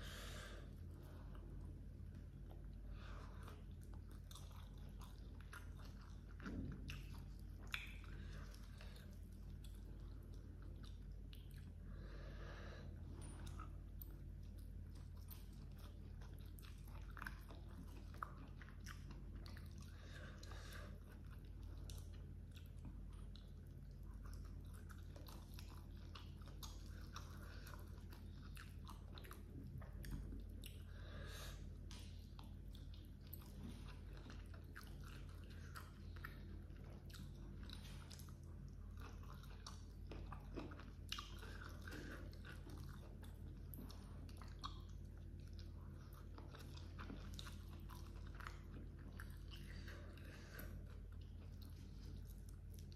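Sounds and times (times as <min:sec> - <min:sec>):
person chewing: 0:00.0 - 0:52.9
steady low hum: 0:00.0 - 0:52.9.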